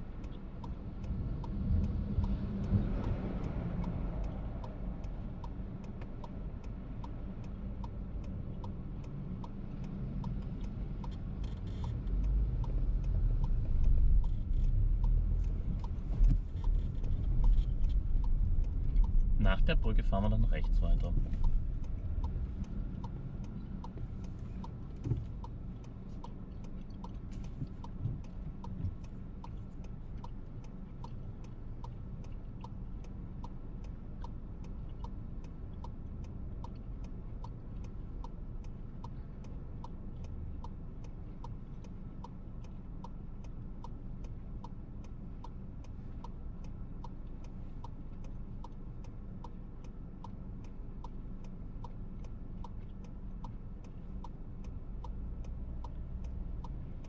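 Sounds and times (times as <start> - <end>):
car cabin rumble while driving: 0.0 - 57.0
turn signal ticking: 0.0 - 57.0.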